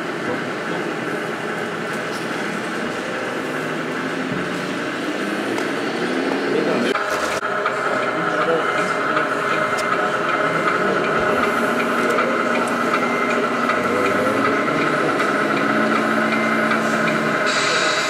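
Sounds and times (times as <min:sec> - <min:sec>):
model trucks engine drone: 0:00.0 - 0:18.0.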